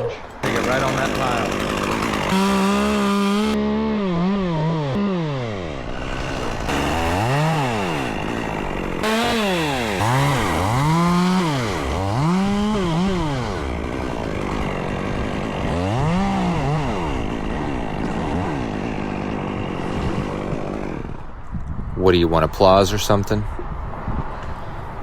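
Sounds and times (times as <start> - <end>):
chainsaw revving: 0.4 - 21.4.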